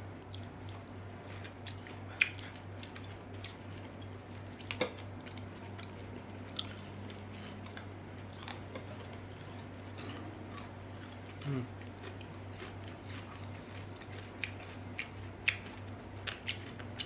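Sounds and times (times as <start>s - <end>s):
steady low hum: 0.0s - 17.0s
crunchy chips being chewed: 0.3s - 17.0s.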